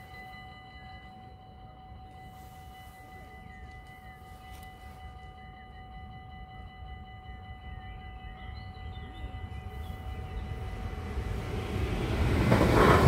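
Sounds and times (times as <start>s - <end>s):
approaching electric train rumble: 0.0s - 13.0s
level crossing bells ringing: 0.0s - 13.0s.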